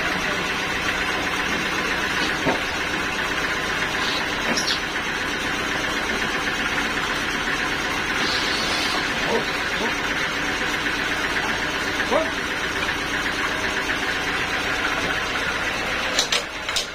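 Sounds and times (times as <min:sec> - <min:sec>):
sawmill machinery running: 0:00.0 - 0:16.9.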